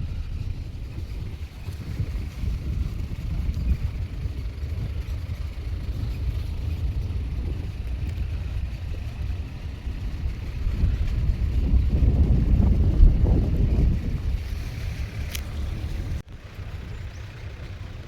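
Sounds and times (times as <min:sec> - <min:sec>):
jeep engine rumble: 0:00.0 - 0:18.0
wind buffeting microphone: 0:00.0 - 0:18.0.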